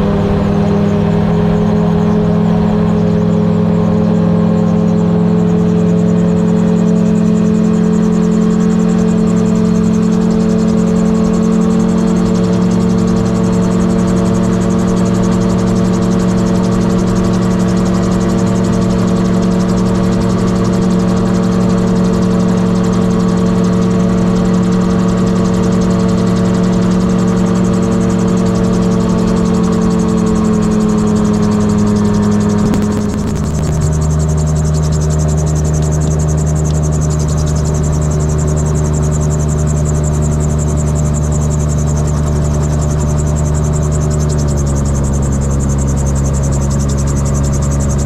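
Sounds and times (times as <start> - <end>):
aircraft engine and propeller drone: 0.0 - 48.0.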